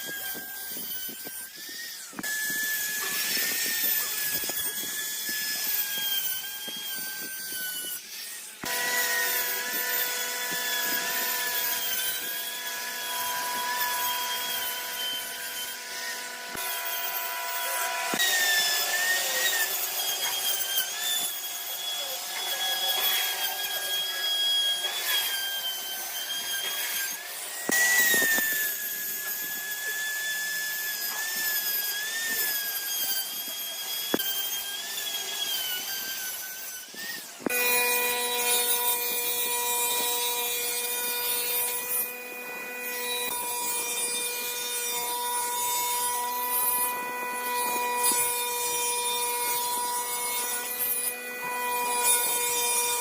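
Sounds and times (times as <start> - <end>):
power tool cutting wood: 0.0 - 53.0.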